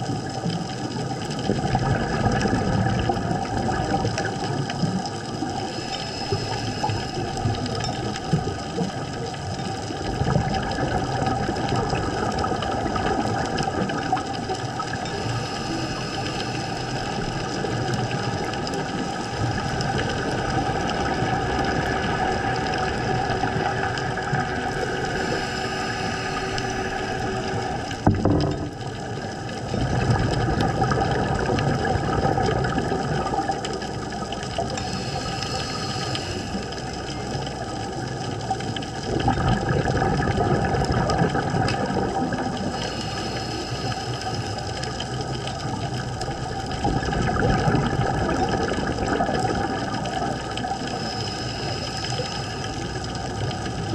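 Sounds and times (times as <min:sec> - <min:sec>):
muffled boat engine hum: 0:00.0 - 0:53.9
water noise: 0:00.0 - 0:53.9.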